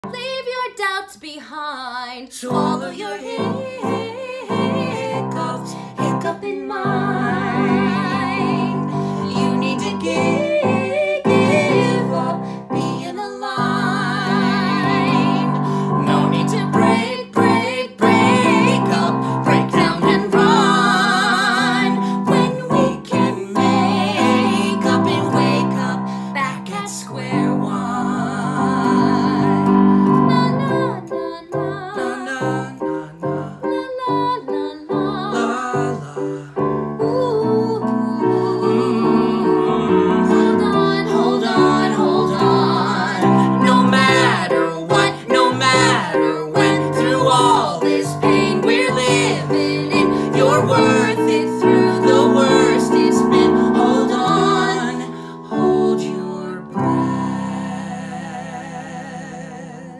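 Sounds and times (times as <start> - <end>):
man and woman singing duet: 0.0 - 59.9
keyboard piano: 2.5 - 59.5.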